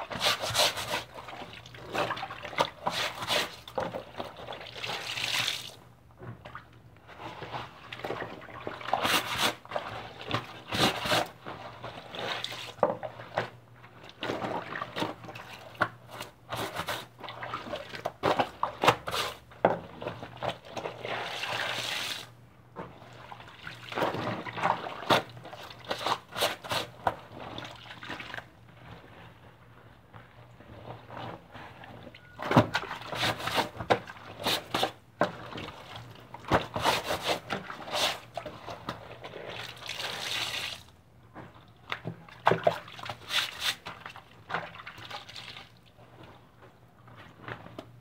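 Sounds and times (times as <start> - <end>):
water splashing and sloshing: 0.0 - 48.0.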